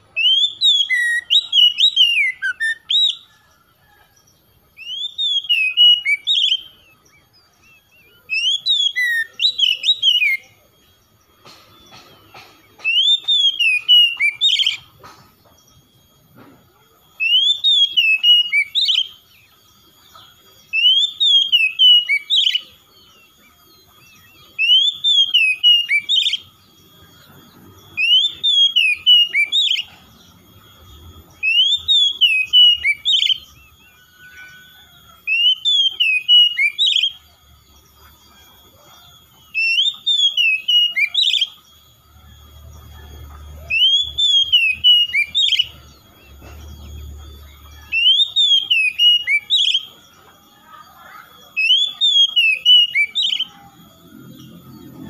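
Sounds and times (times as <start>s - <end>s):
magpie-robin singing whistled notes: 0.0s - 55.0s.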